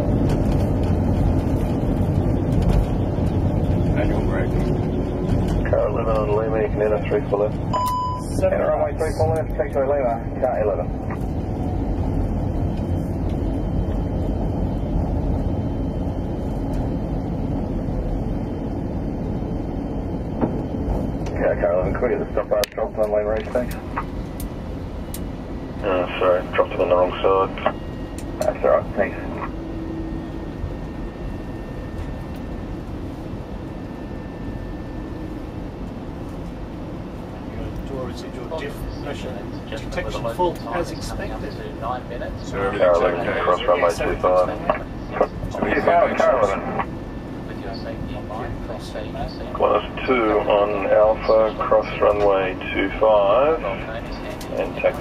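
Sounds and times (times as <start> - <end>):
aircraft cockpit low rumble: 0.0 - 55.0
faint steady whine: 0.0 - 55.0.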